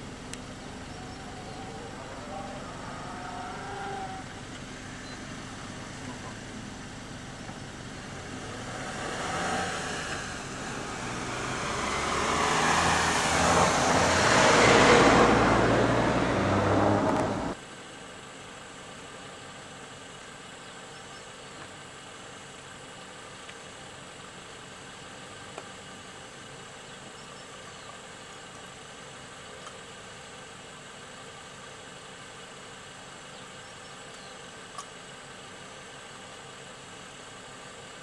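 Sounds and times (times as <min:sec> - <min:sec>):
vehicle engine and tyre noise: 0:00.0 - 0:38.0.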